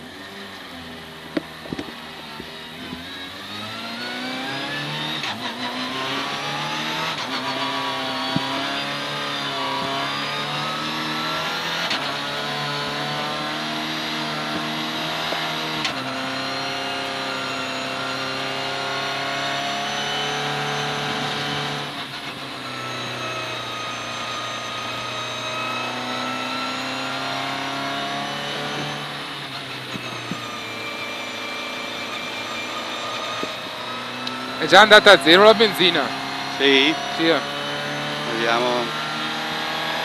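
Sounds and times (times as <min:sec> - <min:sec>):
rally car engine accelerating: 0:00.0 - 0:40.0.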